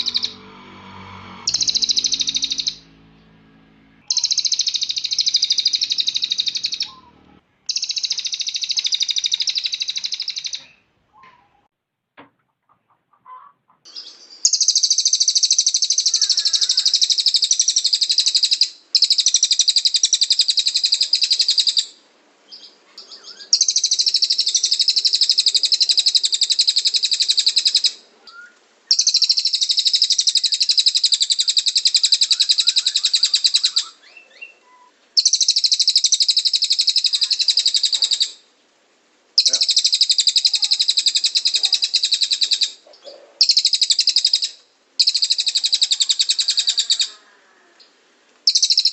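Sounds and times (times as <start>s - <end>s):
bird singing high trills: 0.0s - 10.8s, 13.9s - 38.4s, 39.4s - 42.8s, 43.4s - 47.2s, 48.5s - 48.9s.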